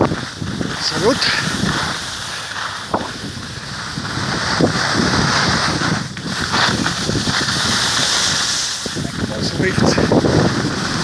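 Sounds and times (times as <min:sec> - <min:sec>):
skis scraping over snow: 0:00.0 - 0:11.0
wind rushing over microphone: 0:00.0 - 0:11.0.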